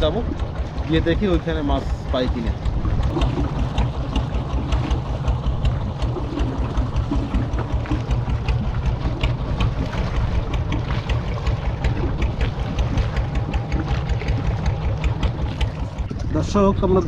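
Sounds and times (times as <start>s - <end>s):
boat engine throbbing: 0.0s - 17.0s.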